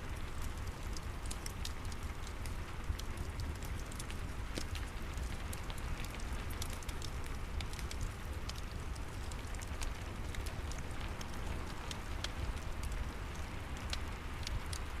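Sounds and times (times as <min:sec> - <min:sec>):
steady rain: 0:00.0 - 0:15.0
fireplace crackling: 0:00.1 - 0:14.9.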